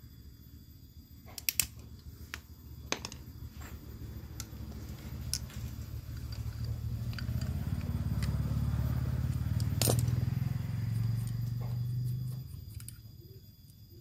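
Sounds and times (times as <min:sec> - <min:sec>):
vehicle engine rumble: 0:01.8 - 0:14.0.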